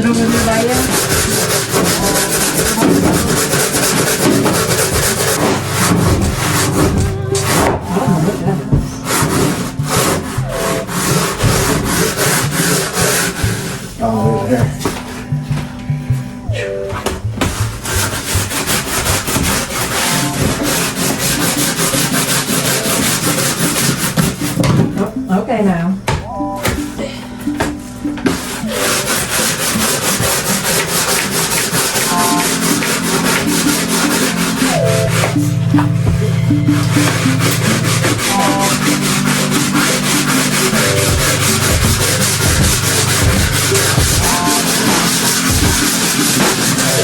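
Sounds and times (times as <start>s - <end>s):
hand scrubbing surface: 0.0s - 15.6s, 16.5s - 24.6s, 27.7s - 47.0s.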